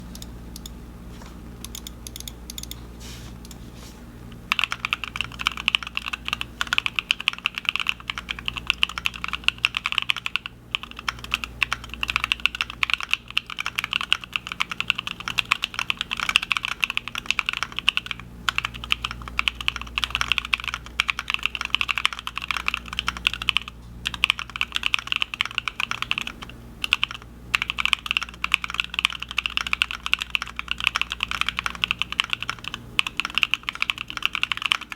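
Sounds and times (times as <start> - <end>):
mechanical keyboard typing: 1.6 - 2.8, 4.5 - 34.9.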